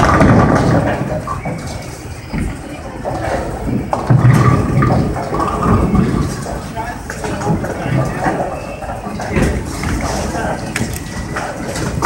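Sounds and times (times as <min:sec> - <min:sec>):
bowling ball rolling on lane: 0:00.0 - 0:10.4
bowling pins crashing: 0:00.0 - 0:12.0.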